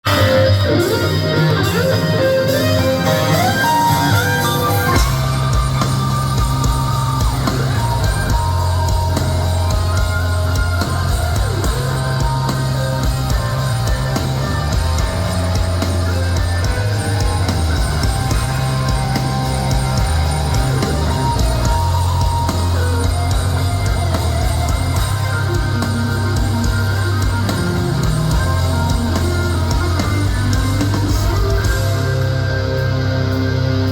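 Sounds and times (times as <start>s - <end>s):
bass and drum kit: 0.0s - 33.9s
distorted electric guitars: 0.0s - 33.9s.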